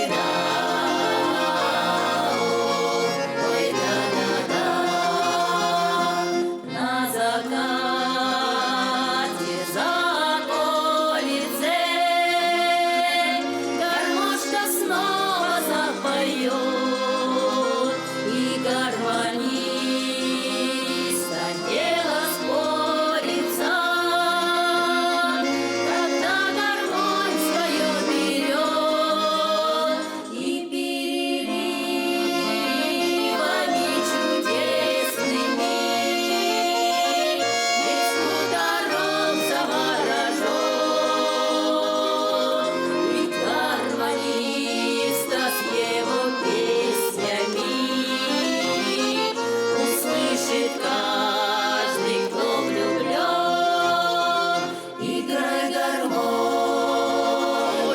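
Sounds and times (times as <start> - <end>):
accordion playing folk song: 0.0 - 57.9
people singing: 0.0 - 57.9.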